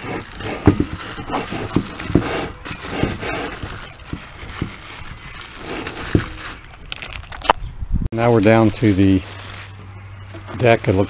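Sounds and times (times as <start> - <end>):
plastic wrapping crinkling: 0.0 - 7.6, 8.2 - 11.0.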